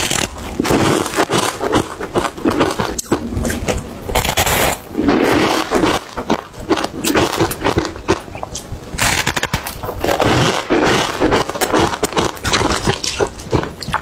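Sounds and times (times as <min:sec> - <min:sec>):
ice crunching while chewed: 0:00.0 - 0:14.0.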